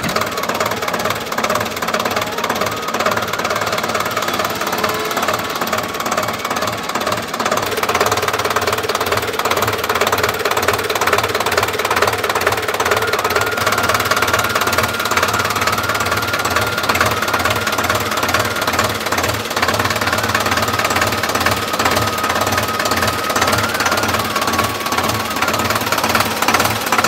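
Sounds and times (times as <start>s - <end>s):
tractor diesel engine clattering: 0.0s - 27.0s.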